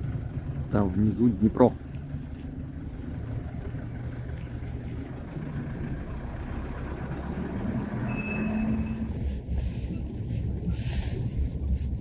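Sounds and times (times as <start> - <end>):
pickup truck engine rumbling: 0.0 - 12.0.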